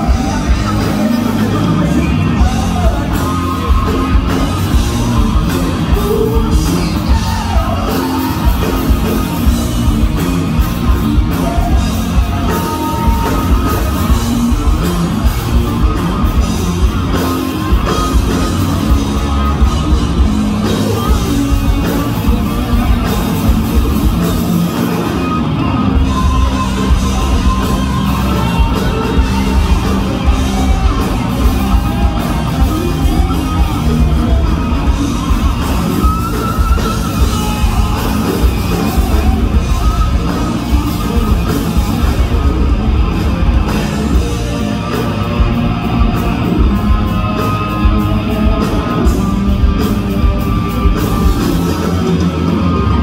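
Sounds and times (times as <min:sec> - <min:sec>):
live hard rock band: 0:00.0 - 0:53.0.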